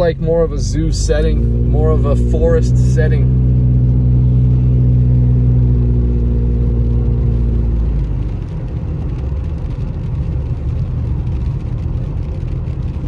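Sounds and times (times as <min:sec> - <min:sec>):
car engine drone: 0:00.0 - 0:13.0
tyres rumbling on wet road: 0:00.0 - 0:13.0.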